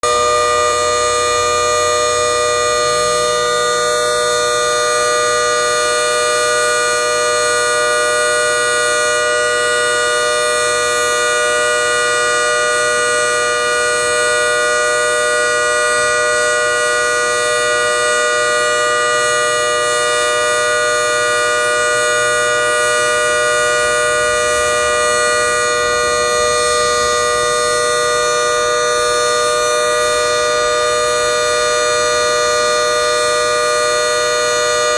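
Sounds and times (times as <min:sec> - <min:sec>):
warning siren two-note chord: 0:00.0 - 0:34.9.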